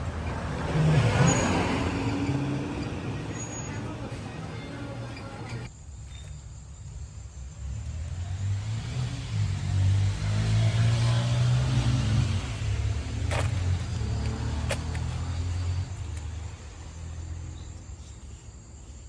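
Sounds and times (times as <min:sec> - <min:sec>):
car engine: 0:00.0 - 0:05.7, 0:07.5 - 0:18.0
road noise: 0:00.0 - 0:19.0.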